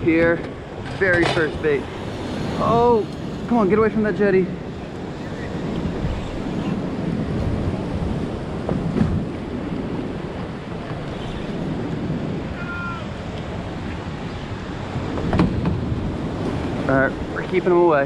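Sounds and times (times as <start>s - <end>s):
surf and waves: 0.0s - 18.0s
wind buffeting microphone: 0.0s - 18.0s.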